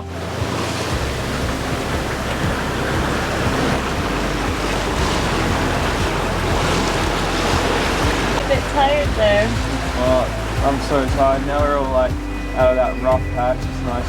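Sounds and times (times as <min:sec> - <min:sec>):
wind buffeting microphone: 0:00.0 - 0:12.8
sea water rushing around boat: 0:00.0 - 0:14.0.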